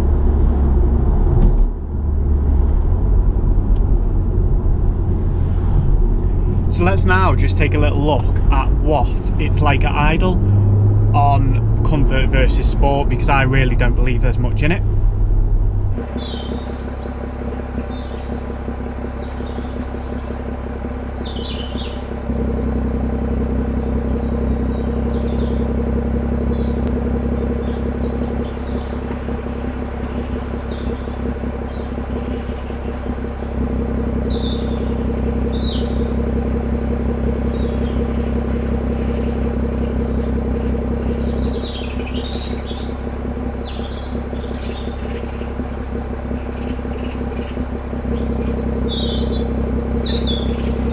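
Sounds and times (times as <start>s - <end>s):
car engine idling: 0.0s - 50.9s
birds chirping: 6.3s - 14.7s, 15.9s - 50.9s.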